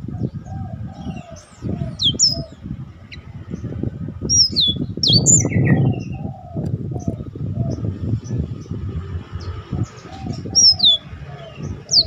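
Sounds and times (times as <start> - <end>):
canary singing: 0.0 - 8.8, 9.4 - 12.0.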